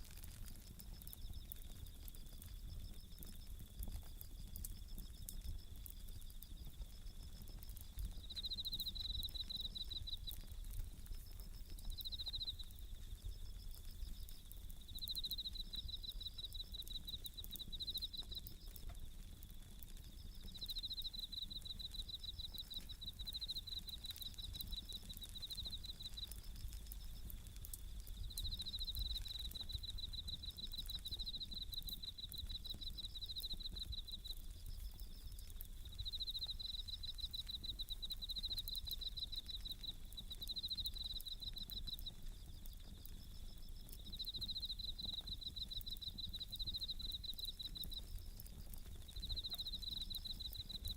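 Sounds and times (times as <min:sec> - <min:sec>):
campfire crackling: 0:00.0 - 0:50.9
crickets trilling: 0:00.0 - 0:50.9.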